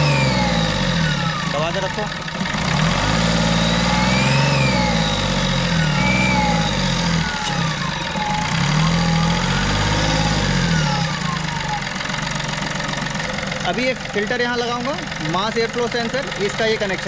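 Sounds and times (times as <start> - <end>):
diesel car engine revving: 0.0 - 17.0.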